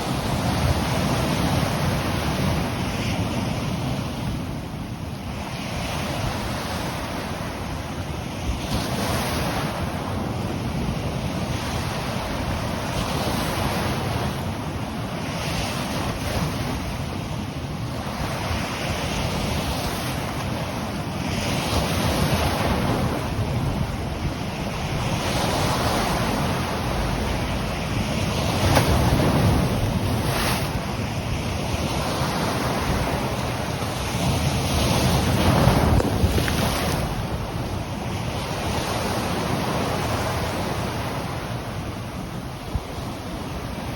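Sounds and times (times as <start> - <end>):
ocean surf washing ashore: 0.0 - 43.9
wind rumbling on microphone: 0.0 - 43.9.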